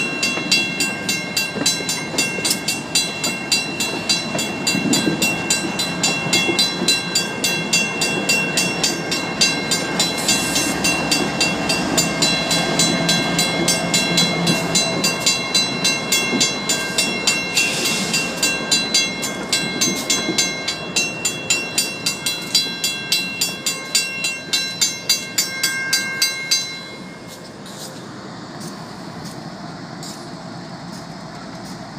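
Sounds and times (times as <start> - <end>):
crossing signal bell ringing: 0.0 - 27.7
diesel locomotives rumbling: 0.0 - 31.9.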